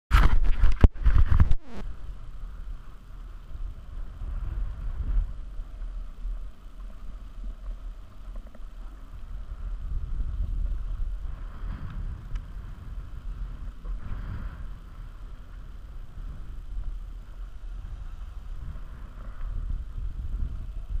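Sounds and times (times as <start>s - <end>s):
wind rumble on microphone: 0.1s - 21.0s.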